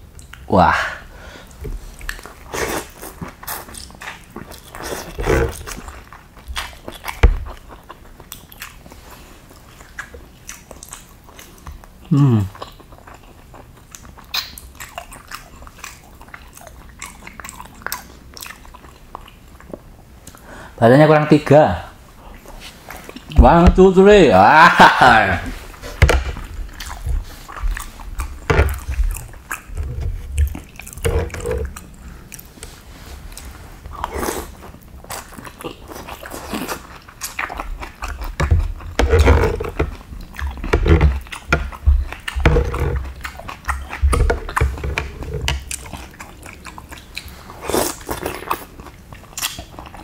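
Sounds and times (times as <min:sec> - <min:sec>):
chewing and slurping: 0:01.4 - 0:20.4, 0:25.5 - 0:50.0.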